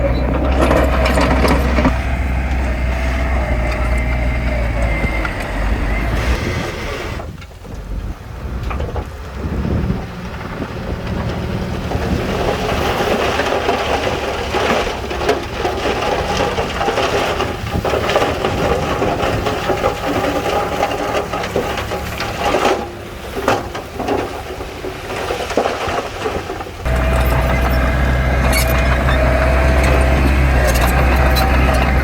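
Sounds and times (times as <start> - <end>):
diesel engine running: 0.0 - 24.9, 26.8 - 32.0
machinery clattering and crunching: 0.0 - 32.0.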